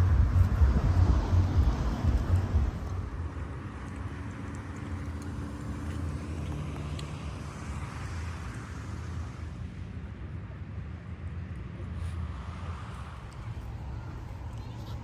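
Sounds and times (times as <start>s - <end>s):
vehicle engine rumble: 0.0s - 10.3s, 11.6s - 15.0s.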